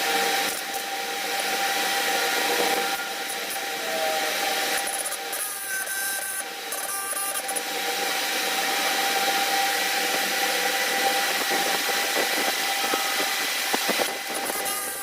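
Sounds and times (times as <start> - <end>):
power tool grinding: 0.0 - 15.0.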